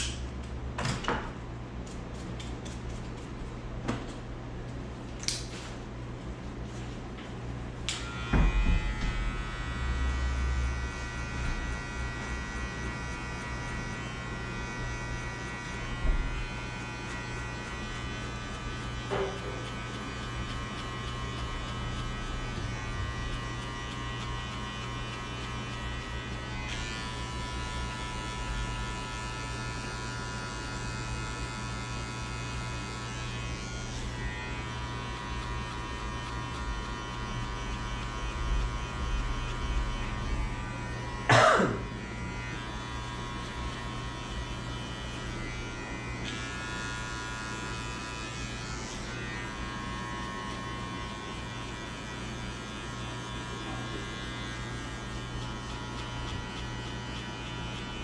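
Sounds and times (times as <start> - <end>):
electric hair clippers buzzing: 0.0 - 0.3, 7.8 - 58.0.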